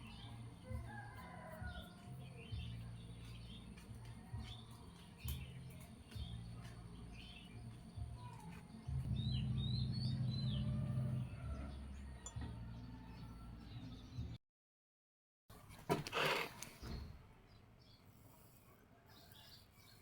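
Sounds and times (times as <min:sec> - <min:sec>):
small birds chirping: 0:00.0 - 0:14.4, 0:16.2 - 0:20.0.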